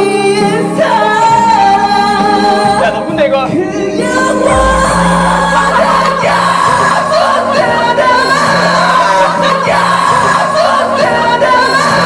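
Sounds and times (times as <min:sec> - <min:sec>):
pop music with voices singing: 0:00.0 - 0:12.0.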